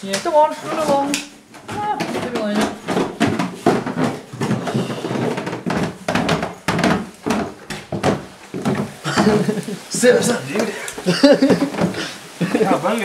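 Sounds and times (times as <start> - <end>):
footsteps down indoor stairs: 0.0 - 13.0.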